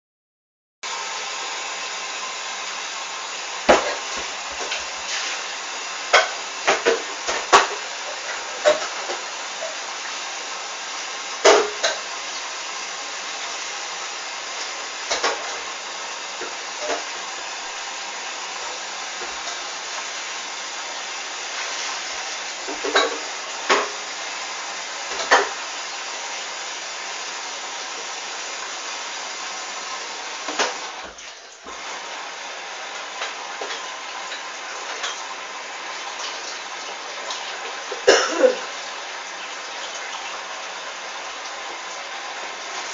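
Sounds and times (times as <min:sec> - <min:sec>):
washing machine hiss: 0:00.8 - 0:42.9.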